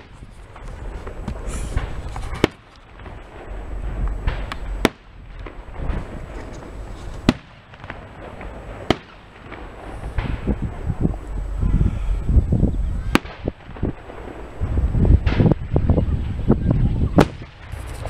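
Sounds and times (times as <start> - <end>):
fireworks bangs: 0.0 - 18.0
fireworks rumble and crackle: 0.0 - 18.0.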